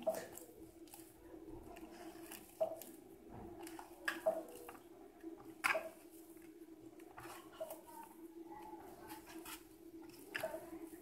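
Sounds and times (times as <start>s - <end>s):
hands kneading wet dough: 0.0s - 11.0s.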